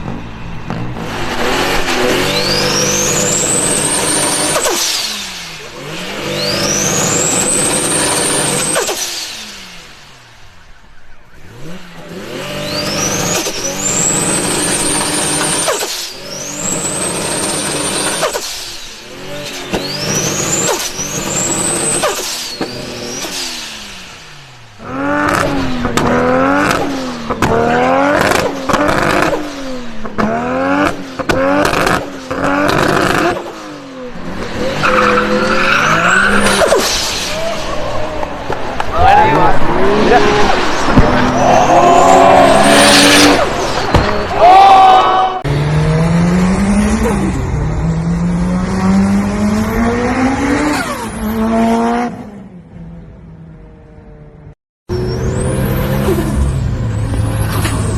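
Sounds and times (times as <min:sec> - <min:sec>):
car engine accelerating: 0:00.0 - 0:44.6, 0:45.3 - 0:57.9
car engine revving: 0:00.0 - 0:44.6, 0:45.3 - 0:57.9.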